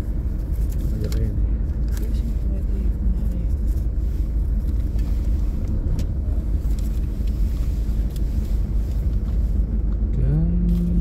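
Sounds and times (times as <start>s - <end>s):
diesel engine rumble: 0.0s - 11.0s.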